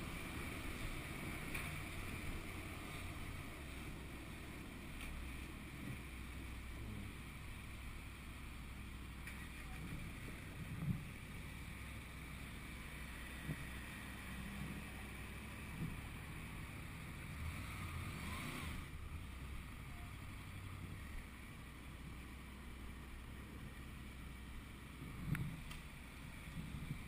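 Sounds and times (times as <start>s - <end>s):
muffled motorcycle engine: 0.0s - 27.0s
steady low hum: 0.0s - 27.0s.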